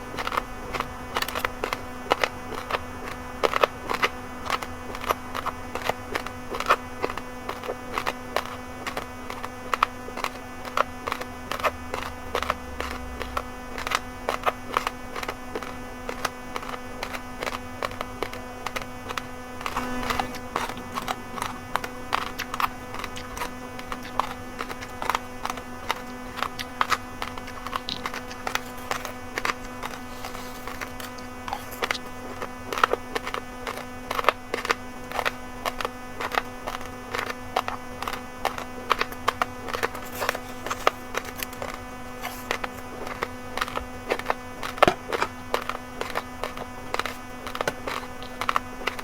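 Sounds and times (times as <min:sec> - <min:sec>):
chewing raw rice crunching: 0:00.0 - 0:49.0
low electrical hum: 0:00.0 - 0:49.0.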